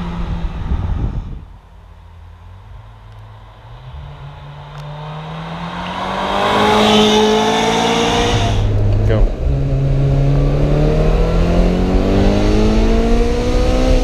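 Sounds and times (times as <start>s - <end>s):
car engine rising in pitch: 0.0s - 14.0s.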